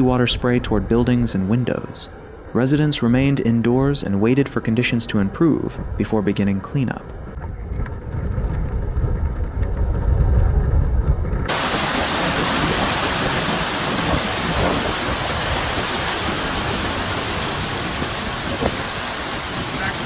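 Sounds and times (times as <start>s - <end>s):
deep rumble of wind: 0.0s - 20.0s
heavy wind-driven rain hiss: 0.0s - 20.0s.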